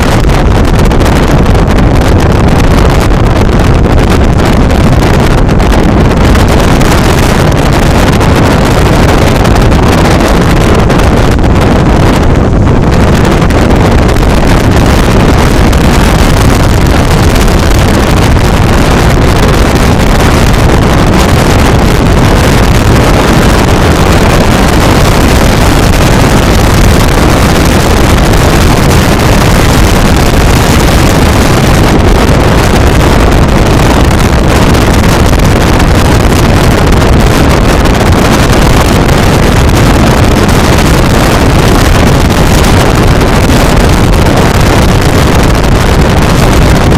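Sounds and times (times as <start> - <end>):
motorboat running at speed: 0.0 - 46.9
wind buffeting microphone: 0.0 - 46.9.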